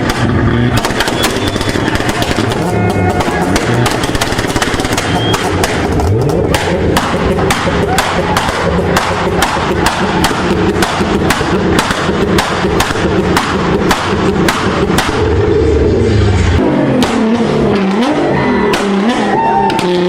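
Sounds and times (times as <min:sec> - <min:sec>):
car engine drone: 0:00.0 - 0:20.0
exhaust bangs: 0:00.0 - 0:20.0.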